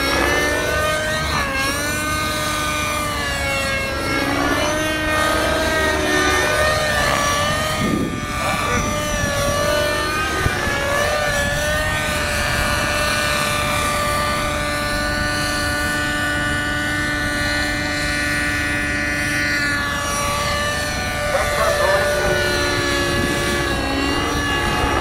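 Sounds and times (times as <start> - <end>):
model helicopter engine whine: 0.0 - 25.0.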